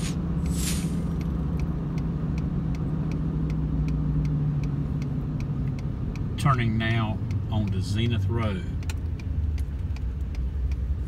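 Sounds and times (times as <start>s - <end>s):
car engine and road noise: 0.0s - 11.0s
turn signal ticking: 0.2s - 11.0s.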